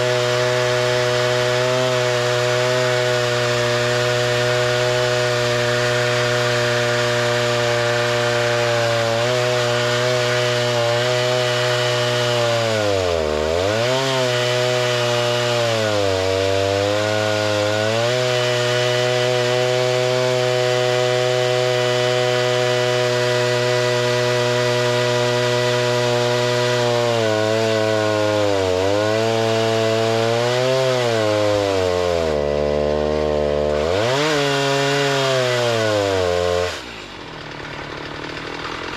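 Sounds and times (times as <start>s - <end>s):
sawmill gasoline engine labouring: 0.0s - 38.9s.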